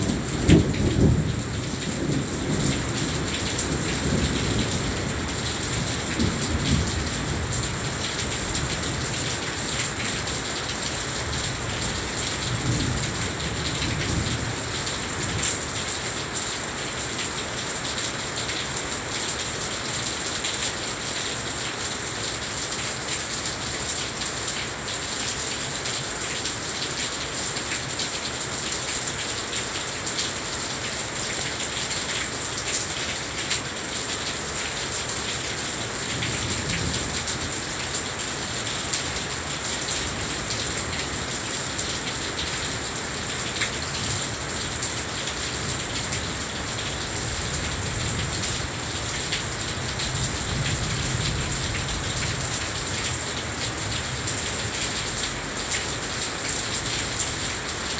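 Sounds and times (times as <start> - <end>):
raindrops hitting surfaces: 0.0 - 57.9.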